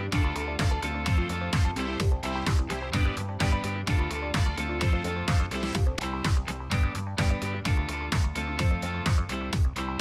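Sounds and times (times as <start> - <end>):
electronic dance music: 0.0 - 10.0
steady kick drum: 0.0 - 10.0.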